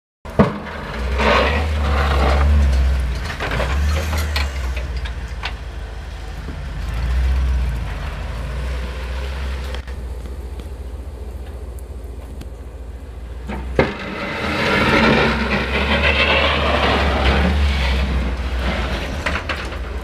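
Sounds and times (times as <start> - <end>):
pickup truck engine running: 0.3 - 20.0
plow blade scraping snow: 0.3 - 20.0.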